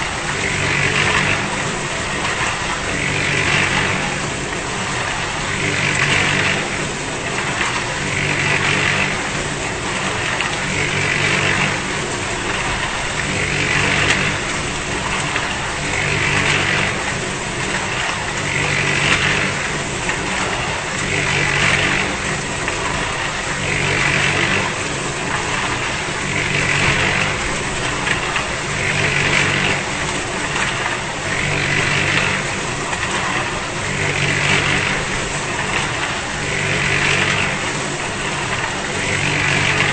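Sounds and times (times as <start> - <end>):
concrete mixer running: 0.0 - 39.9.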